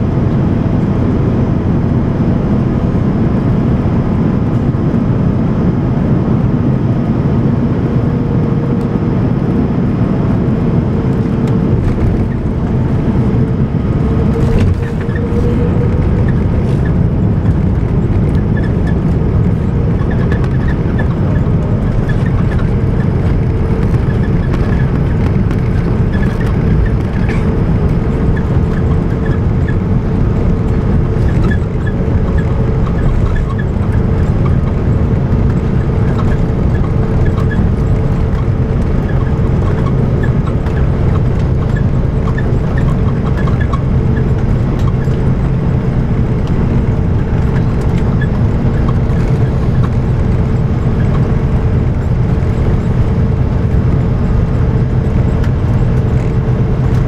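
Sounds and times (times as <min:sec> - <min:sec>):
engine whine: 0:00.0 - 0:57.0
jet engines low rumble: 0:00.0 - 0:57.0.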